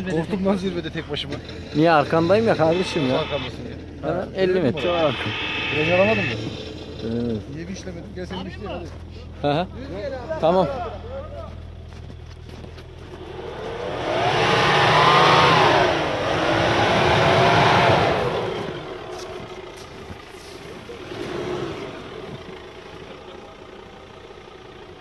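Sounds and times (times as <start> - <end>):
off-road engine revving: 0.0 - 25.0.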